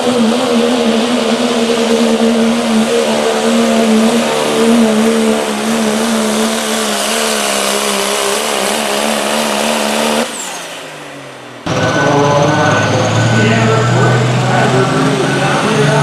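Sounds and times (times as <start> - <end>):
diesel engine at full throttle: 0.0 - 16.0.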